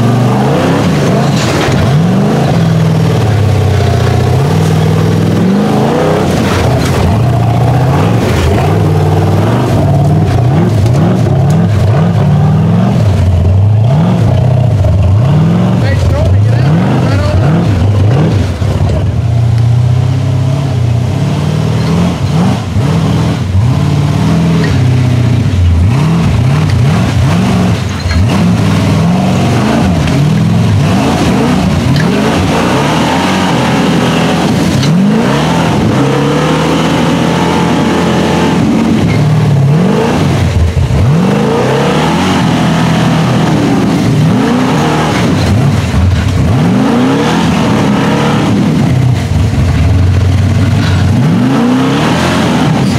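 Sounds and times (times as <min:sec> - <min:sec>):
truck engine revving under load: 0:00.0 - 0:52.9.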